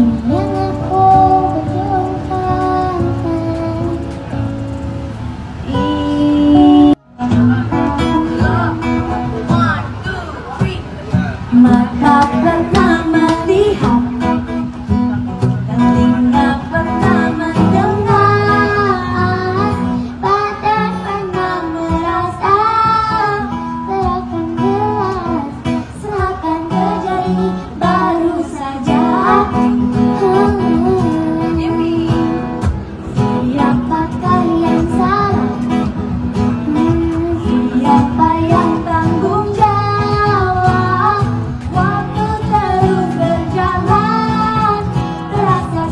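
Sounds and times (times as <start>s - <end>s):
woman and girl singing: 0.0s - 4.2s, 5.6s - 9.8s, 11.5s - 14.5s, 15.7s - 45.9s
acoustic guitar strumming: 0.0s - 45.9s.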